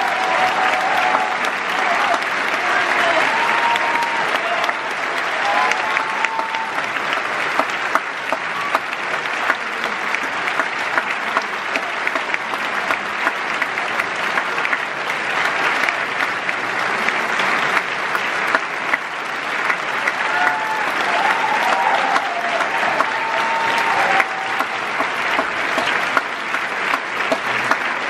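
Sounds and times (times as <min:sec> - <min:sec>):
large audience applauding: 0:00.0 - 0:28.0.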